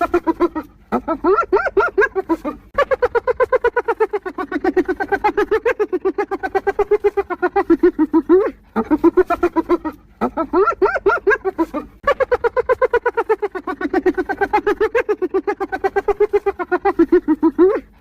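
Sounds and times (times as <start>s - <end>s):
hyena giggling whoops: 0.0s - 18.0s.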